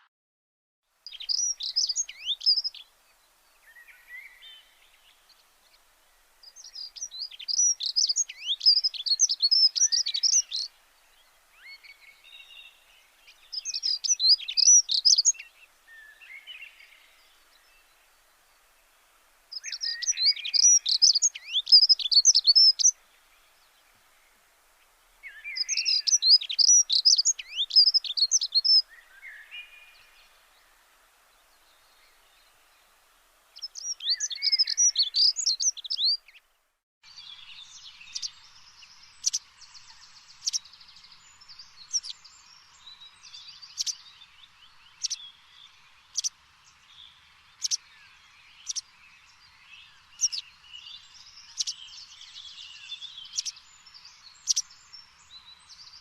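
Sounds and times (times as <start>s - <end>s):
faint chorus of bird calls: 0.9s - 56.0s
songbirds twittering: 1.0s - 56.0s.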